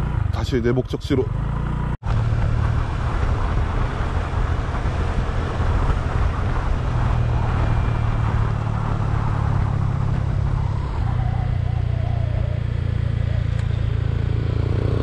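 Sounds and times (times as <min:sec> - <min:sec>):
wind rushing over microphone: 0:02.0 - 0:15.0.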